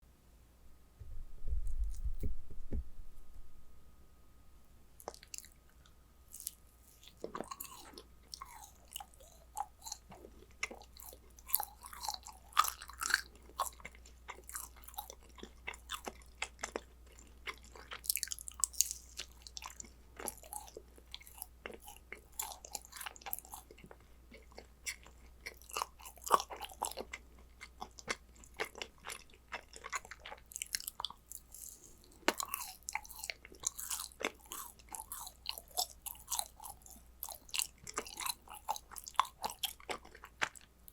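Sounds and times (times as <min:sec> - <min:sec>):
cookies being chewed: 0:05.0 - 0:40.9.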